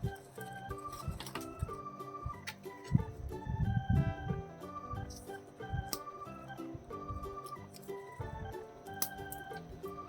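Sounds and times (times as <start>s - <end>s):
organ-like keyboard melody: 0.0s - 10.0s.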